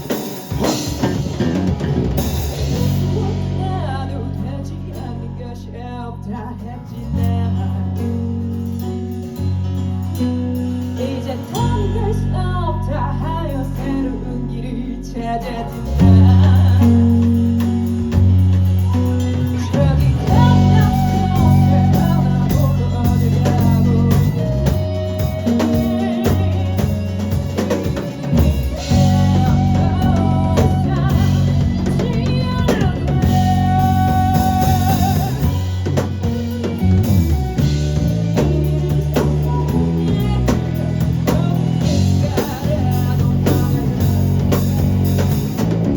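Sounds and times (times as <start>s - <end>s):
drum kit: 0.0s - 5.4s, 6.9s - 12.4s, 15.4s - 45.9s
person singing: 0.0s - 8.8s, 10.8s - 45.8s
guitar: 0.0s - 45.9s.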